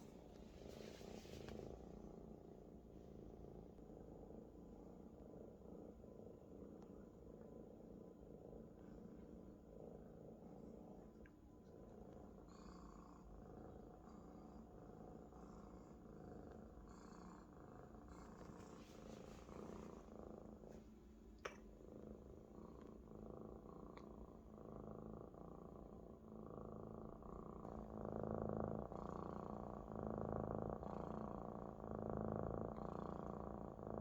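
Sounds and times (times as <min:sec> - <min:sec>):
kitten purring: 0:00.0 - 0:34.0.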